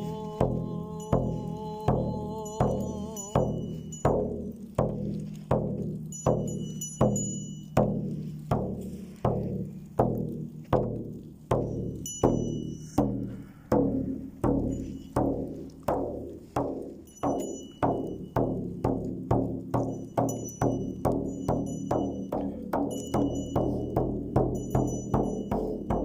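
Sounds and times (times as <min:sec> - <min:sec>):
frame drum beaten slowly: 0:00.0 - 0:26.0.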